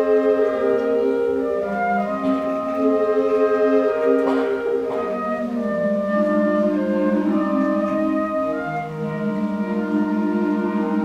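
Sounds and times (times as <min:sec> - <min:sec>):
concert band playing held chords: 0:00.0 - 0:11.0.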